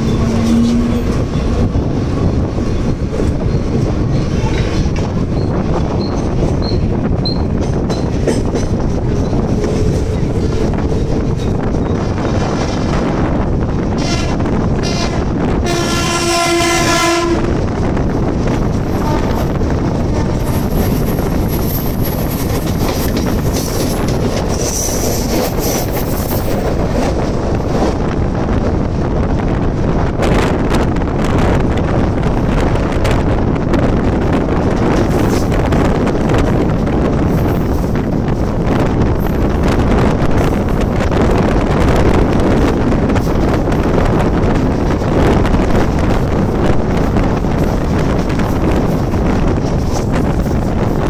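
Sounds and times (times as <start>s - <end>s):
train wheels rumbling on rail: 0.0s - 51.0s
wind buffeting microphone: 0.0s - 51.0s.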